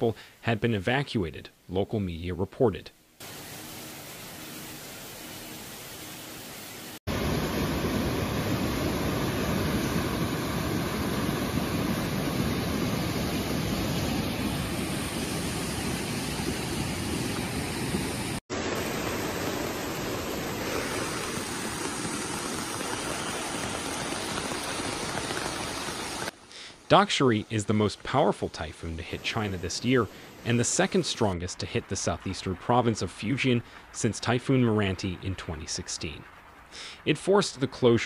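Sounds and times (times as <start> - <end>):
floodwater rushing: 3.2 - 38.0.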